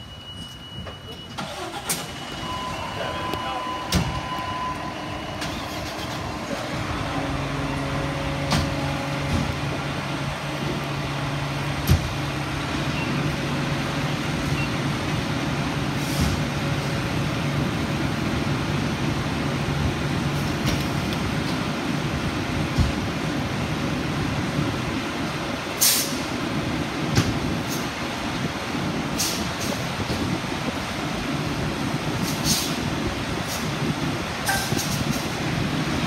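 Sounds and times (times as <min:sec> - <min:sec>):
fire truck engine idling: 0:01.4 - 0:36.0.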